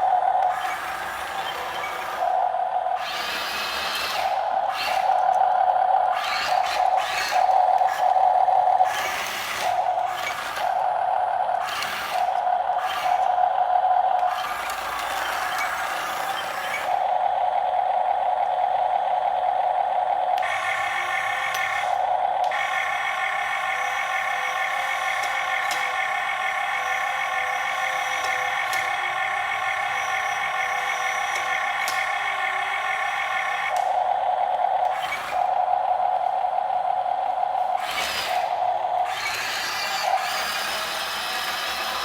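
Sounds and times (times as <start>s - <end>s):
toy excavator motors whirring: 0.0s - 42.0s.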